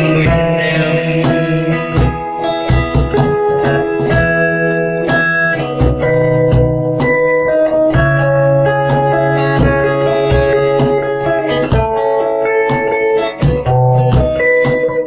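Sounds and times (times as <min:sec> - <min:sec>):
acoustic guitar chords: 0:00.0 - 0:15.0
cajon beat: 0:00.0 - 0:15.0.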